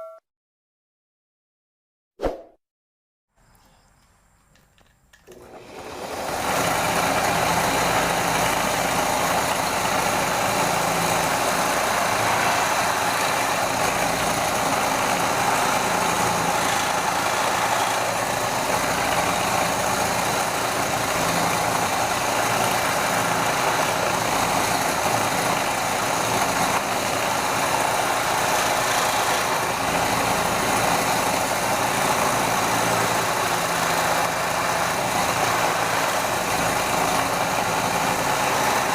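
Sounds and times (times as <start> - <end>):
power tool motor whining: 5.2 - 38.9.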